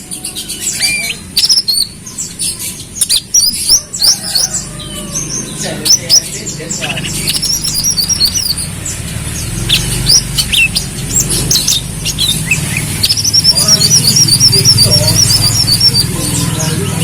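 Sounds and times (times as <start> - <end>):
sunbird chirps and trill: 0.0 - 17.0.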